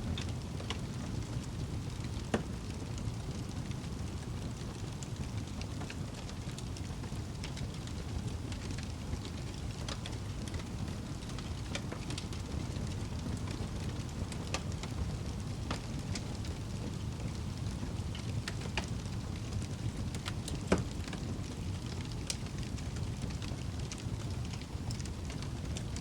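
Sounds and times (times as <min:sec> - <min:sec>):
fire crackles and pops: 0:00.0 - 0:26.0
wood fire rumbling and hissing: 0:00.0 - 0:26.0.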